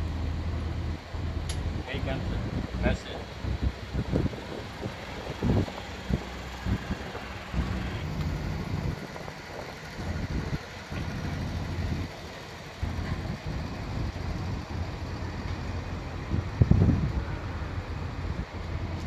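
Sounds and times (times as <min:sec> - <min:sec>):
boat engine rumbling: 0:00.0 - 0:19.0
wind buffeting microphone: 0:00.5 - 0:19.0.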